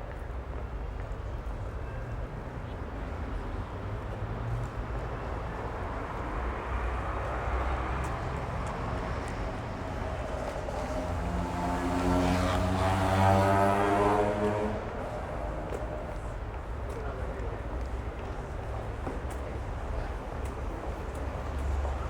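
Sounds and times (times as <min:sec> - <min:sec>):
passing cars rumbling: 0:03.7 - 0:22.0.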